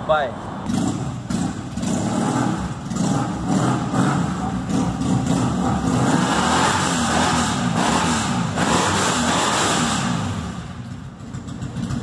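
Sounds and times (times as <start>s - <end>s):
motorcycle engine revving: 0.7s - 12.0s.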